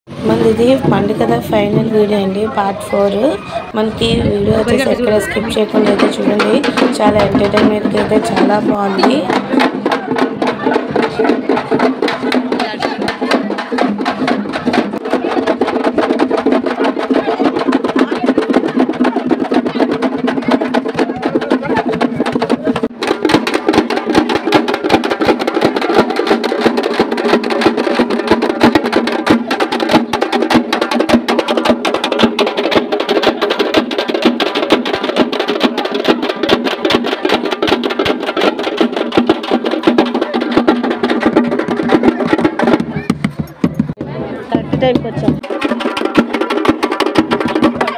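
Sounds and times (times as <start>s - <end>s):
barrel drums beaten with sticks: 0.1s - 2.9s, 3.8s - 47.9s.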